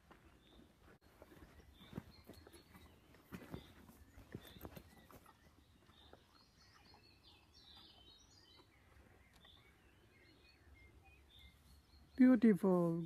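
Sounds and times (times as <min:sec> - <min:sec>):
faint bird chirps: 0:00.3 - 0:12.8.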